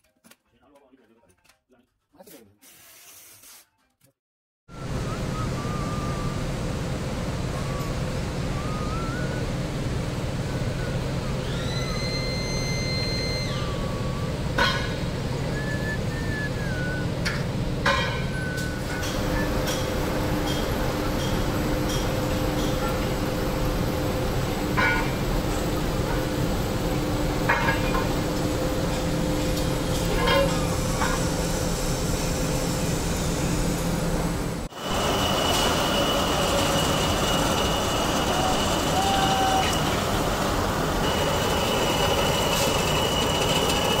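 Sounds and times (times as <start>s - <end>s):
machinery drone: 4.7s - 44.0s.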